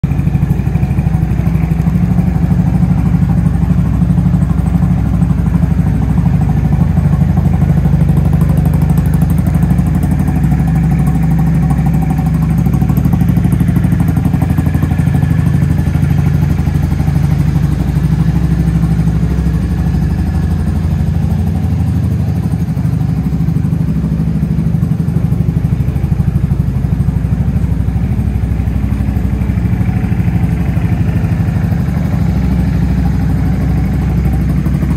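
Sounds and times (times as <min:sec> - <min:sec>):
scooter engine idling: 0:00.0 - 0:34.9.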